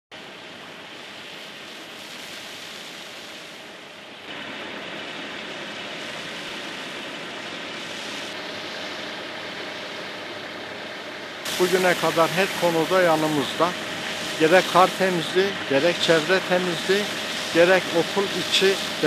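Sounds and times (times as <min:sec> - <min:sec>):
hose jet spraying water on paving: 0:00.5 - 0:09.0, 0:11.4 - 0:19.0.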